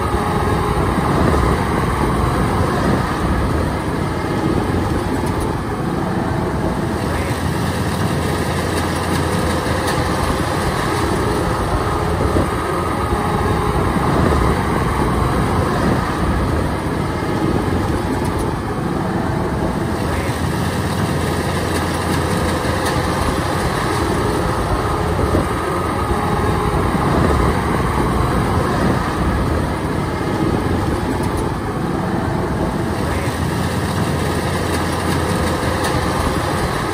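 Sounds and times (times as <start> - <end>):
combine harvester diesel engine: 0.0 - 36.9.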